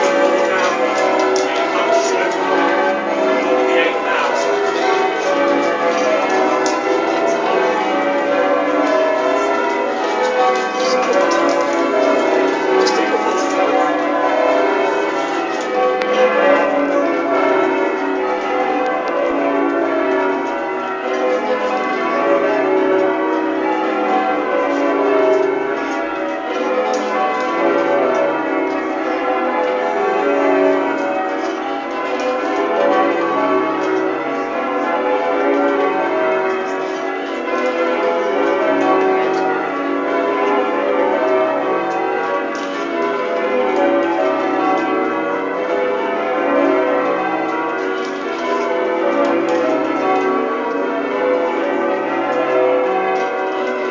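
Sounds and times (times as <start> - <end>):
tower bells ringing changes: 0.0 - 53.9.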